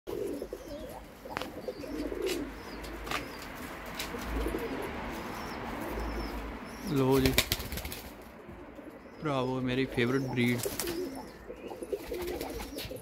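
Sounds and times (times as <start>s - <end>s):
pigeons cooing: 0.1s - 13.0s.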